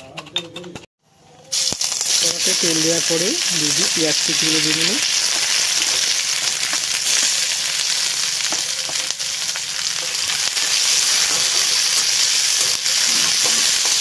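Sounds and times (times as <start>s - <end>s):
onions sizzling in hot oil: 1.4s - 14.0s.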